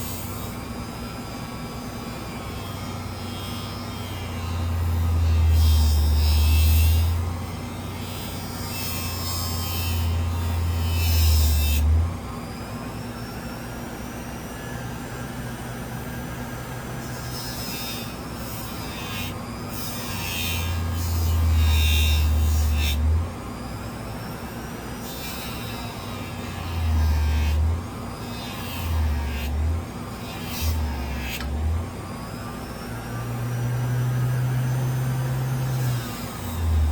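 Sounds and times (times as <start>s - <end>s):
power tool motor humming: 0.0s - 36.9s.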